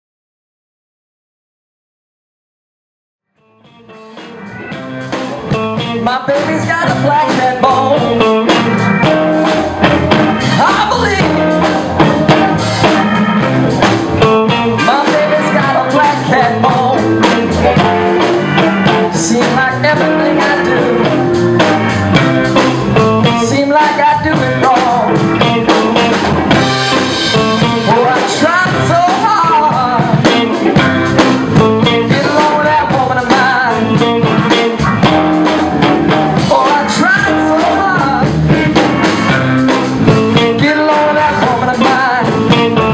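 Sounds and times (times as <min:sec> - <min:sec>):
blues-rock band playing: 0:03.4 - 0:42.9.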